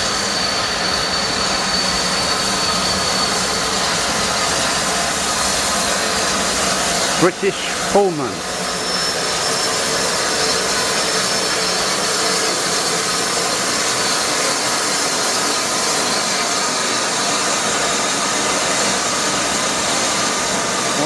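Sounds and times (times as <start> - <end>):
steam hissing loudly: 0.0 - 21.0.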